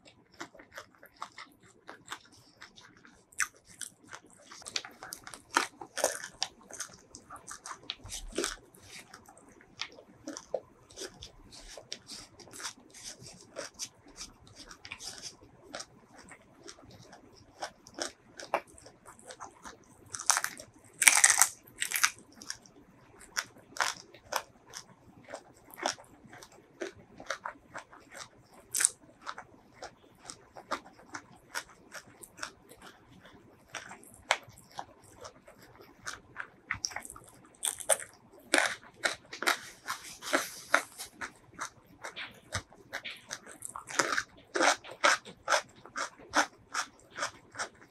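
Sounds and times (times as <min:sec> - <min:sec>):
wet mouth clicks and chewing: 0:00.0 - 0:47.9
crunchy bites: 0:00.3 - 0:22.6, 0:23.2 - 0:33.0, 0:33.7 - 0:47.9.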